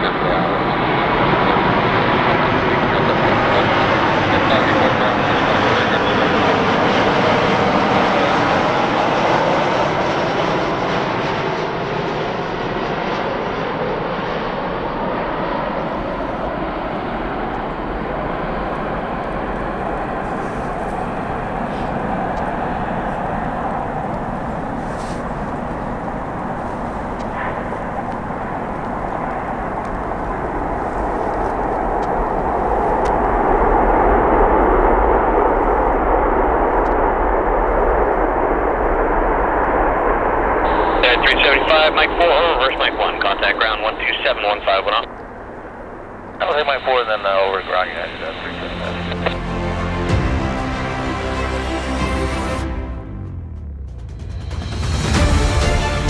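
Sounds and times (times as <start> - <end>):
jet engines during landing: 0.0 - 56.0.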